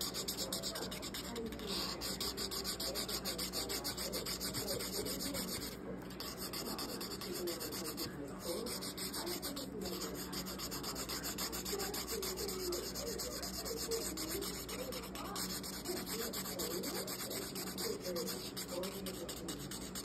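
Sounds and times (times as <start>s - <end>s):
marker rubbing on paper: 0.0s - 20.0s.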